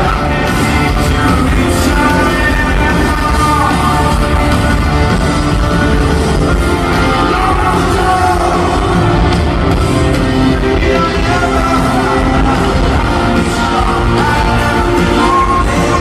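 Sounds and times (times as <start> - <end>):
live rock band playing: 0.0 - 16.0
person singing lead vocal: 0.0 - 16.0
stadium crowd: 0.0 - 16.0.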